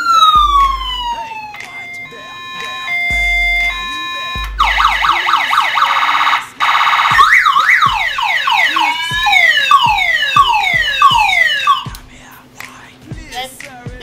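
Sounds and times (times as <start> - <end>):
electronic siren wailing: 0.0 - 11.9
buzzing tone: 0.3 - 12.0.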